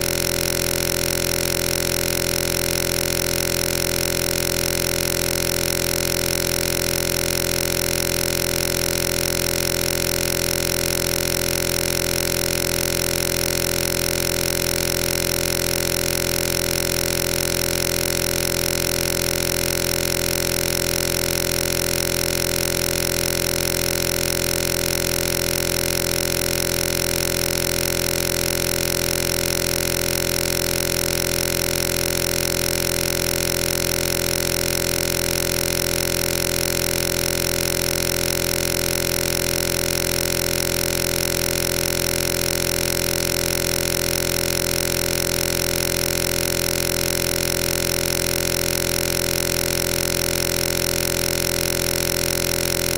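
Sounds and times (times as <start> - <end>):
loud steady buzzing drone: 0.0 - 52.9.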